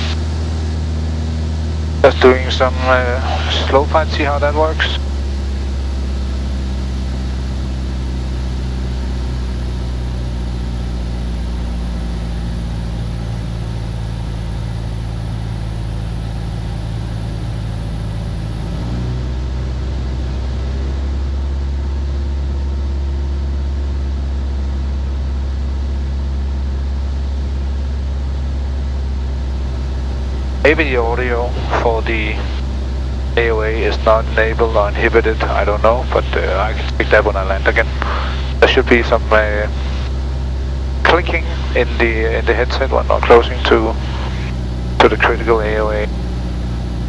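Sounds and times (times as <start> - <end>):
aircraft engine and propeller droning: 0.0 - 47.0.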